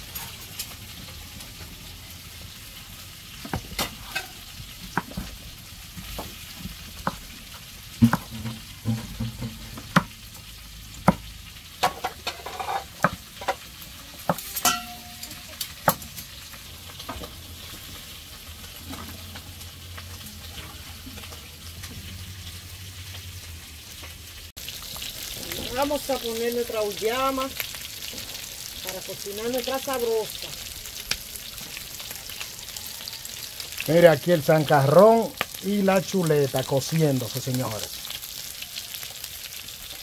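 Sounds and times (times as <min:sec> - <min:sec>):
meat sizzling in a pot: 0:00.0 - 0:40.0.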